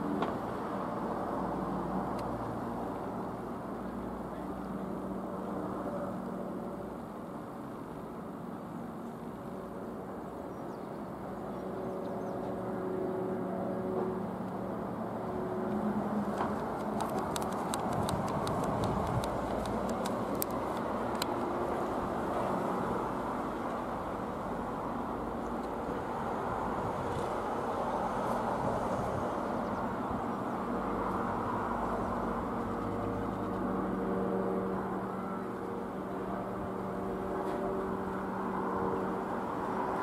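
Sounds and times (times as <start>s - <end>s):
light aircraft engine droning: 0.0s - 40.0s.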